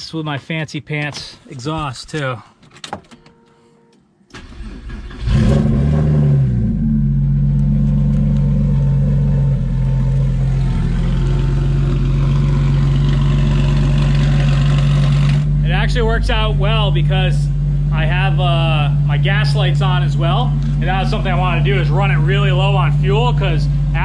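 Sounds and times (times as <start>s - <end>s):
car engine starting and idling: 4.3s - 24.0s.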